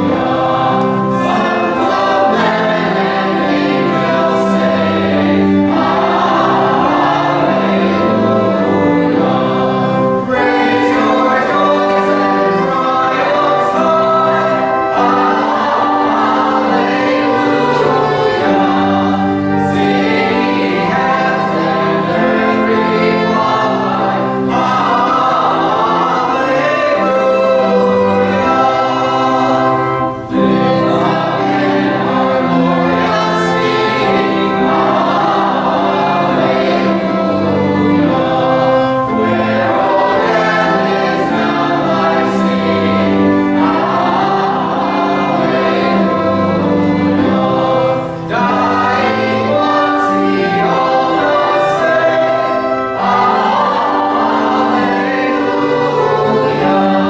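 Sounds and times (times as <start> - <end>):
congregation singing a hymn: 0.0 - 57.0
pipe organ chords: 0.0 - 57.0.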